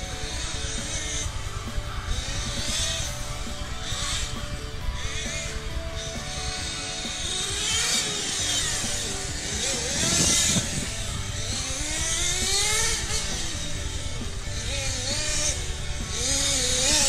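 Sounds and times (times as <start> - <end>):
toy car motor whine: 0.0 - 17.0.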